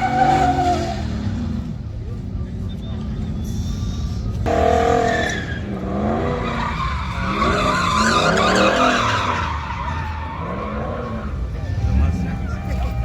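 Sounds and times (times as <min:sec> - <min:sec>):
tires squealing: 0:00.0 - 0:01.8, 0:02.6 - 0:13.0.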